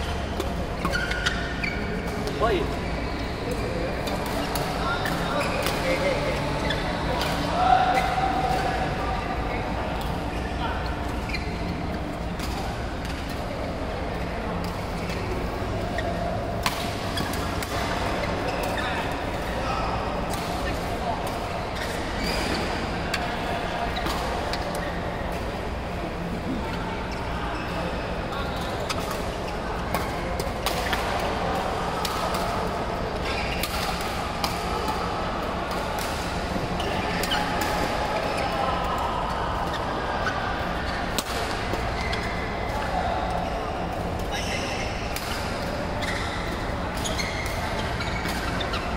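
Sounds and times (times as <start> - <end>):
din of busy hall: 0.0 - 48.9.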